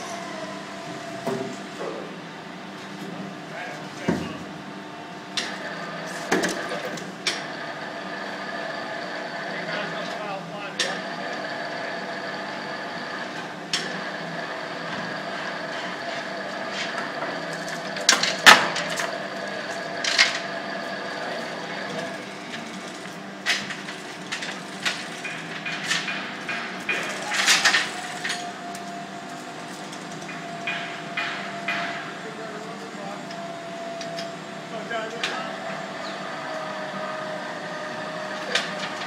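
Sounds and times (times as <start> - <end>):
steady workshop hum: 0.0 - 39.0.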